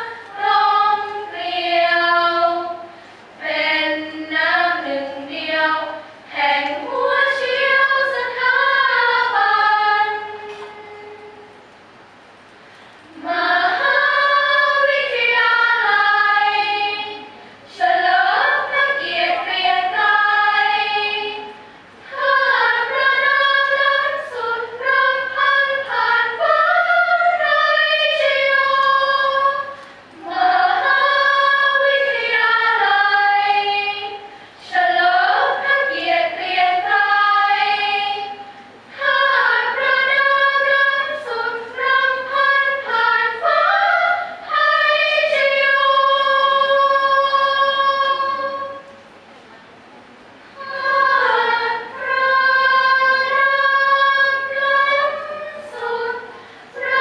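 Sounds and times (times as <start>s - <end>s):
women's choir singing a cappella: 0.0s - 11.6s, 13.1s - 49.0s, 50.4s - 57.0s.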